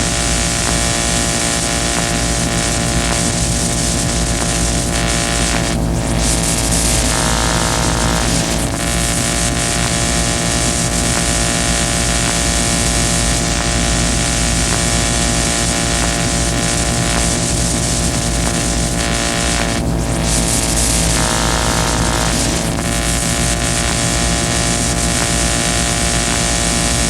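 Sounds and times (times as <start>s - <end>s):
droning tones: 0.0s - 27.0s
harsh noise hiss: 0.0s - 27.0s.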